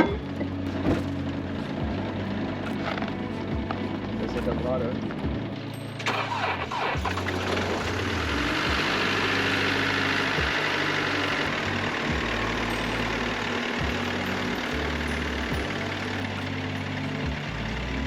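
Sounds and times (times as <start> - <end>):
background music: 0.0 - 18.0
diesel engine starting and idling: 0.0 - 18.0.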